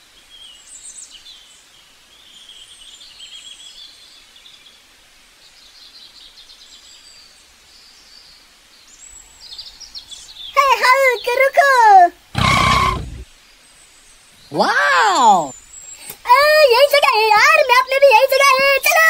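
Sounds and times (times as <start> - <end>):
faint birds chirping: 0.0 - 19.0
low background hiss: 0.0 - 19.0.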